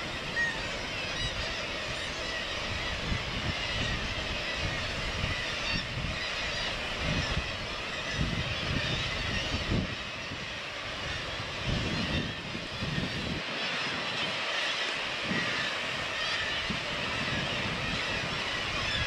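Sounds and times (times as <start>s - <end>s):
seabird colony calling: 0.0s - 19.0s
wind gusting on microphone: 0.0s - 19.0s.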